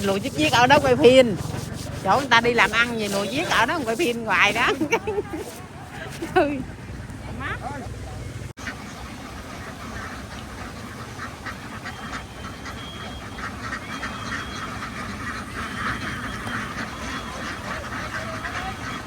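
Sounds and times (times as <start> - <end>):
ducks quacking: 0.0 - 8.0, 8.6 - 19.0.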